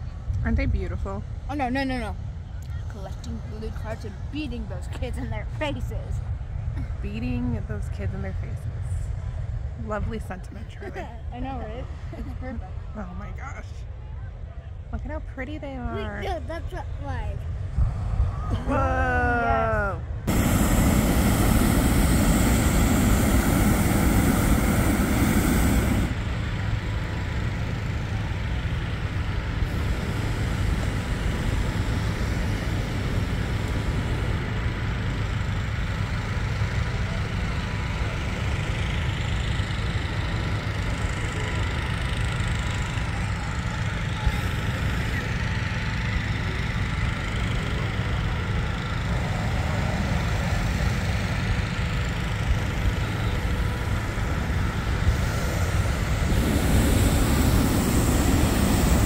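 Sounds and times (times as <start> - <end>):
inflator fans droning: 0.0 - 59.0
propane burner roaring: 3.0 - 13.7, 15.1 - 59.0.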